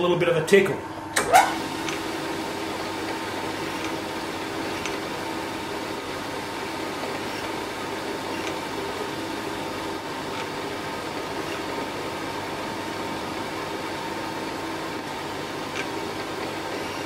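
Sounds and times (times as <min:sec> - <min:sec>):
milling machine humming: 0:00.0 - 0:17.0.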